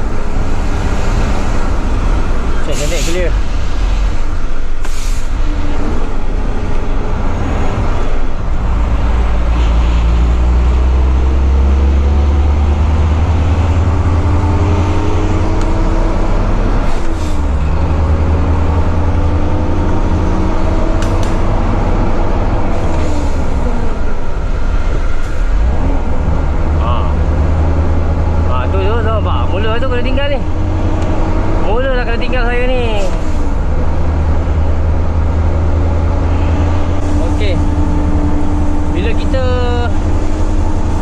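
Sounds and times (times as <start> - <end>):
truck diesel engine accelerating: 0.0 - 41.0.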